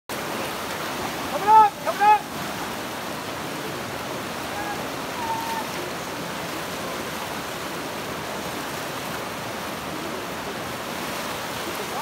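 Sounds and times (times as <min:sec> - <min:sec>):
river rapids rushing over rocks: 0:00.1 - 0:12.0.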